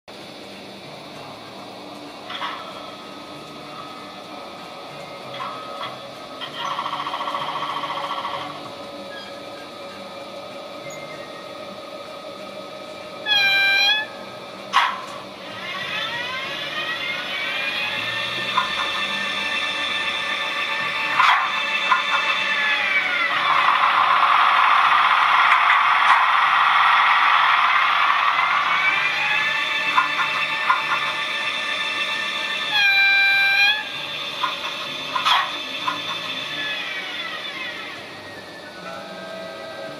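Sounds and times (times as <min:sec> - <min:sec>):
electric locomotive drive tones: 0:00.1 - 0:39.9
steady electrical hum: 0:00.1 - 0:39.9
traction motor whine rising: 0:00.2 - 0:39.9.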